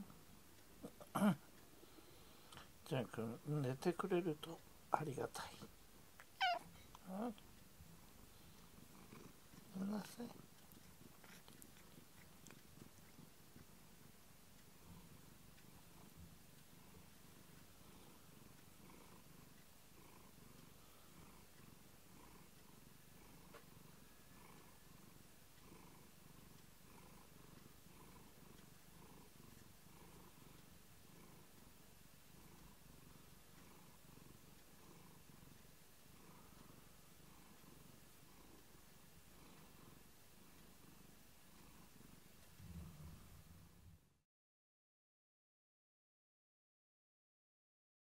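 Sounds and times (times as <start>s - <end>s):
cat purring: 0.0s - 44.2s.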